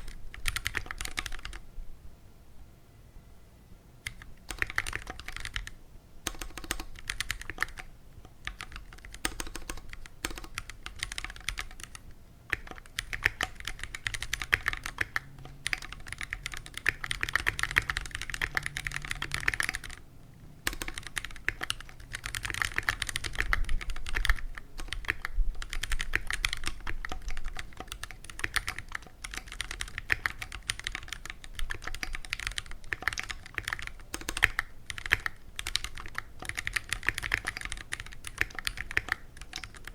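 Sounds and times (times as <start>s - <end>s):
mechanical keyboard typing: 0.0s - 1.6s, 4.0s - 20.0s, 20.6s - 39.9s.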